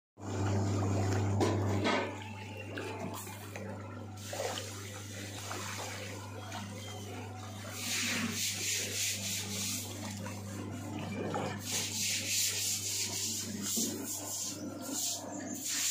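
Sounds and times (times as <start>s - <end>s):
water sloshing and splashing: 0.2s - 15.9s.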